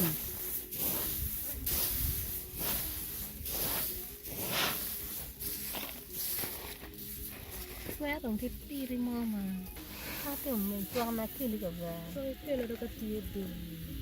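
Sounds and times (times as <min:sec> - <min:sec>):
rice stalks rustling and swishing: 0:00.0 - 0:13.6.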